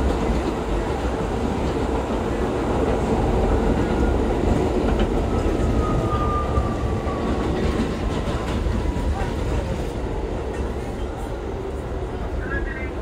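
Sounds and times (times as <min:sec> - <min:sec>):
subway car wheels rumbling: 0:00.0 - 0:13.0.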